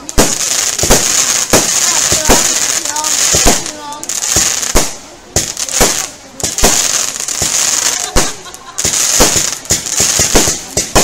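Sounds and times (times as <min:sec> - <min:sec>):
fireworks bangs: 0:00.0 - 0:11.0
high hiss of fireworks: 0:00.0 - 0:11.0.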